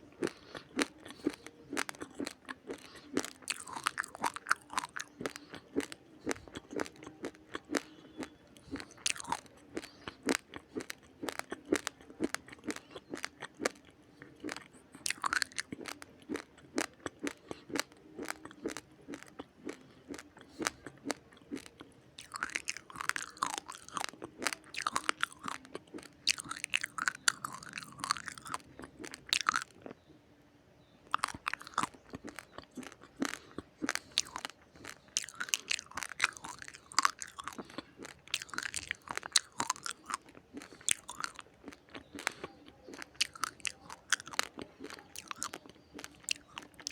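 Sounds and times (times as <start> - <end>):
raw rice being chewed: 0.0 - 30.1, 31.0 - 46.9.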